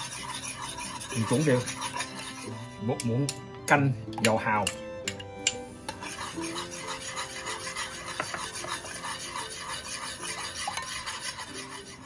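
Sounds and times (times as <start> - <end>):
utensil scraping container: 0.0 - 3.4, 4.2 - 12.0.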